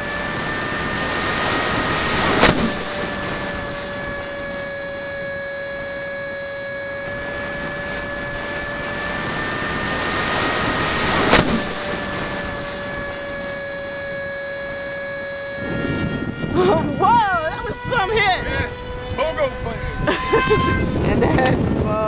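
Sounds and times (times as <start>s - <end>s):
model plane motor whine: 0.0s - 22.0s
wind hissing over microphone: 0.0s - 22.0s.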